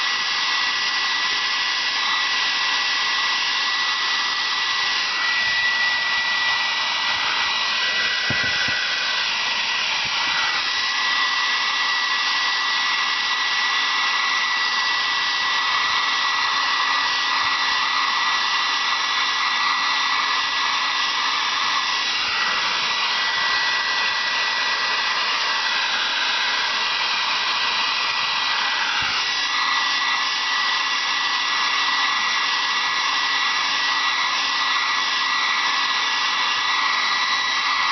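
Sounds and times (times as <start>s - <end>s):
hair dryer blowing: 0.0s - 37.9s.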